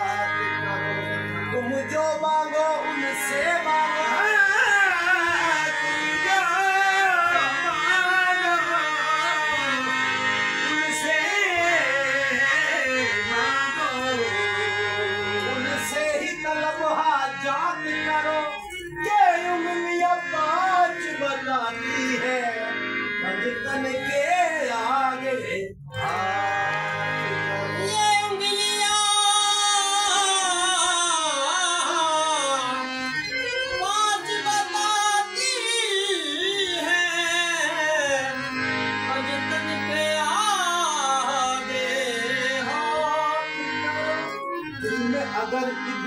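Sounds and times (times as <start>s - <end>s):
harmonium accompaniment: 0.0s - 46.0s
man singing: 0.0s - 46.0s.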